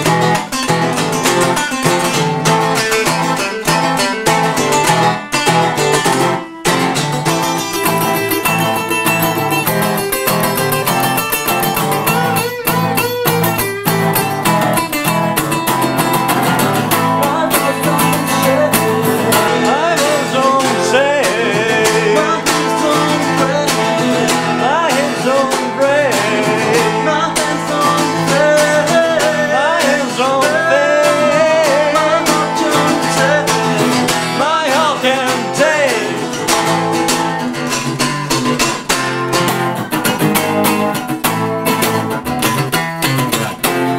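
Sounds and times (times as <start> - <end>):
acoustic guitar: 0.0 - 43.9
resonator guitar: 0.0 - 43.9
wavering gliding guitar notes: 0.0 - 43.9.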